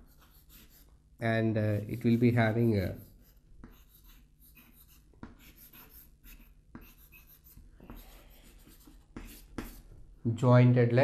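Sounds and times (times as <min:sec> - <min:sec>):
chalk scratching on chalkboard: 0:00.0 - 0:01.0, 0:01.7 - 0:09.9.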